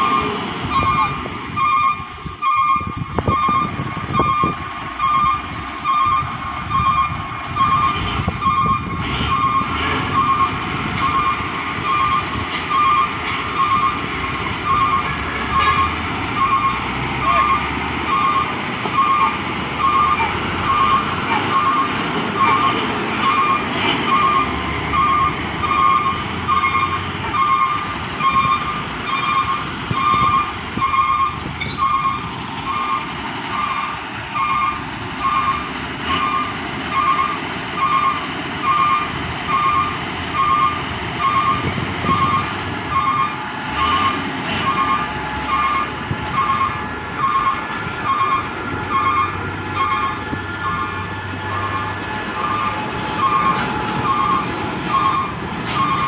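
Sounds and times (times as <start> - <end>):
truck reversing alarm beeping: 0.0 - 56.0
vehicle engines rumbling: 0.0 - 56.0.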